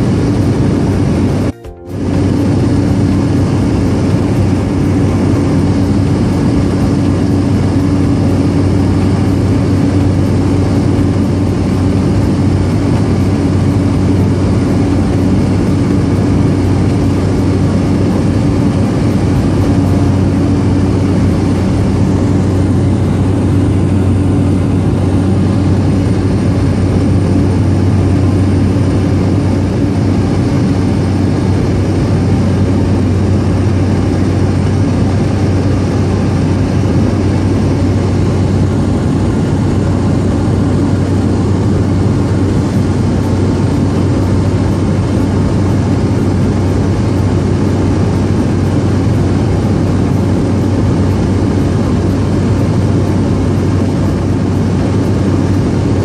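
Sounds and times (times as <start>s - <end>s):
propeller aircraft engine drone: 0.0s - 56.0s.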